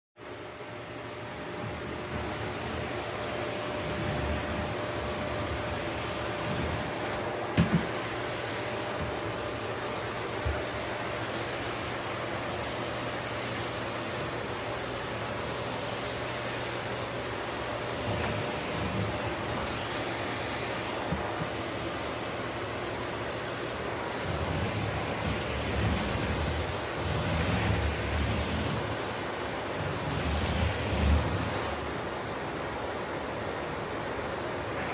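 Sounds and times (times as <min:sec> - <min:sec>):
vacuum cleaner whining: 0:00.2 - 0:34.9.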